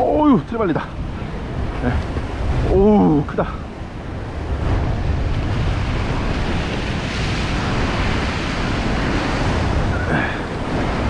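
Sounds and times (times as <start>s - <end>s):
ocean surf washing over rocks: 0.0s - 11.0s
wind buffeting microphone: 0.0s - 11.0s.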